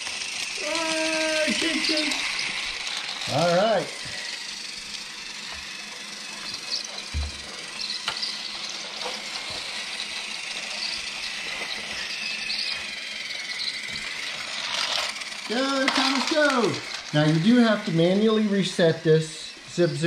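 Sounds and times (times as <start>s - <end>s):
toy train motor whirring: 0.0s - 20.0s.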